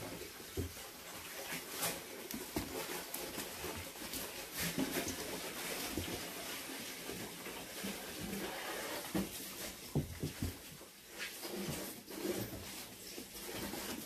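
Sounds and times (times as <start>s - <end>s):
kittens scuffling on cardboard: 0.0s - 14.0s.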